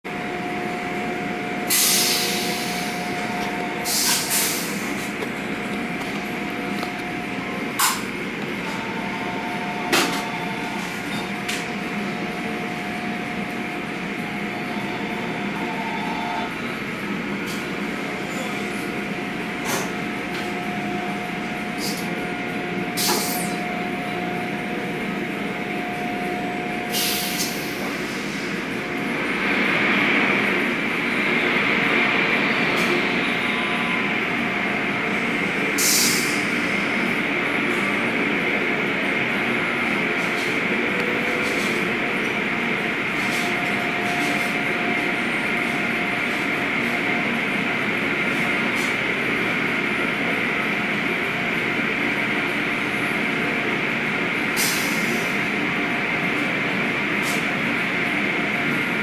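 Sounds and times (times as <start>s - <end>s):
machinery whine: 0.0s - 59.0s.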